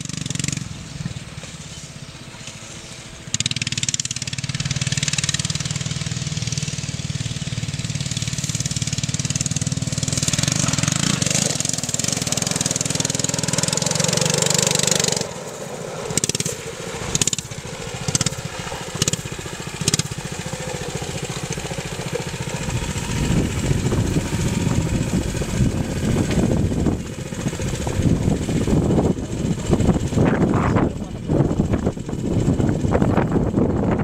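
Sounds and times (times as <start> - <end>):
small gas engine revving: 0.0 - 34.0
truck driving over dirt: 0.0 - 34.0.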